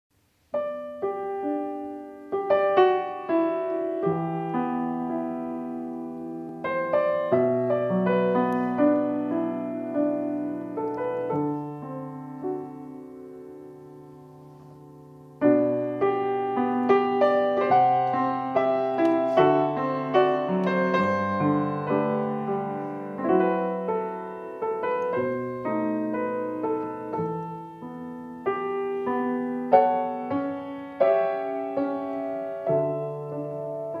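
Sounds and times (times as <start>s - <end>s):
solo piano playing: 0.4s - 34.0s.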